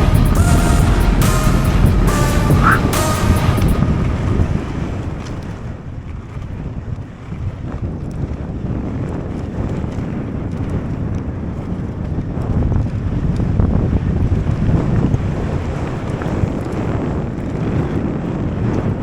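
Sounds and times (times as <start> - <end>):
wind buffeting microphone: 2.0 - 19.0.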